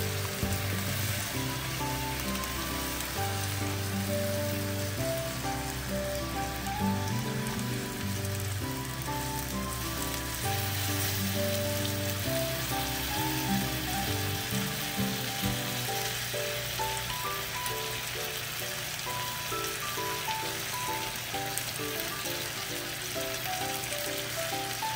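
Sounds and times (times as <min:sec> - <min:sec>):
background music: 0:00.0 - 0:24.9
skewers sizzling in a frying pan: 0:00.0 - 0:24.9.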